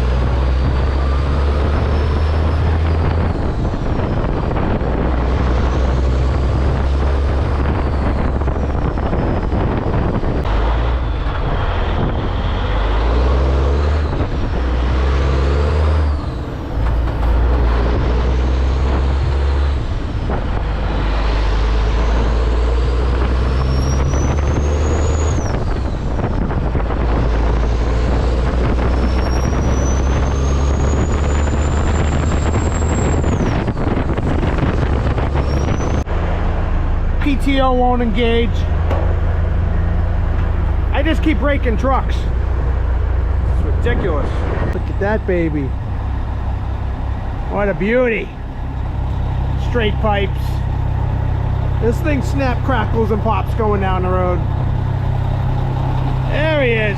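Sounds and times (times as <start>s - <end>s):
diesel truck engine under load: 0.0s - 56.9s.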